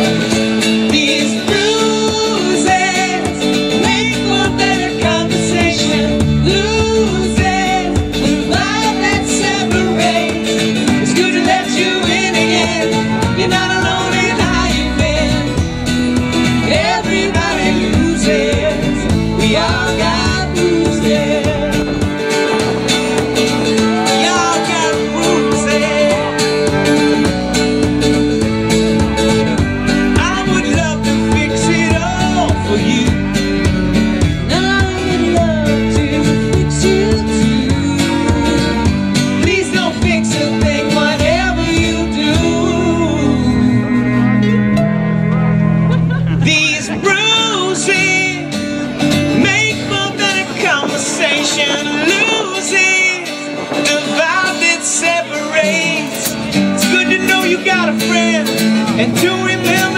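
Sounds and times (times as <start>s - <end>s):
acoustic guitar chords: 0.0s - 59.9s.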